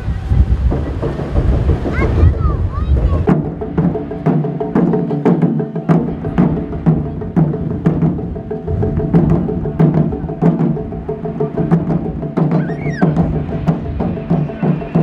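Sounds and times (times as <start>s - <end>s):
taiko drums beating: 0.1s - 15.0s.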